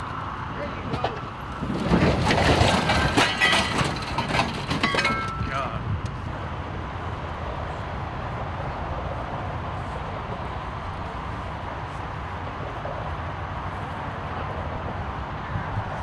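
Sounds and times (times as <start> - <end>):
low rumble of vehicle engines: 0.0 - 16.0.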